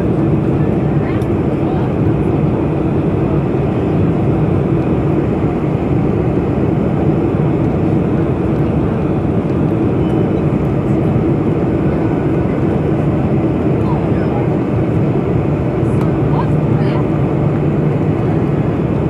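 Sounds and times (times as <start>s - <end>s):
airplane cabin engine and airflow noise: 0.0s - 19.0s.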